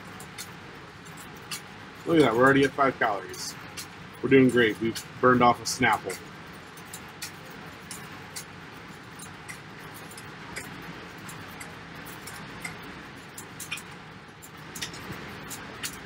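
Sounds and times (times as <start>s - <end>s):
exercise bike whirring: 0.0s - 16.0s.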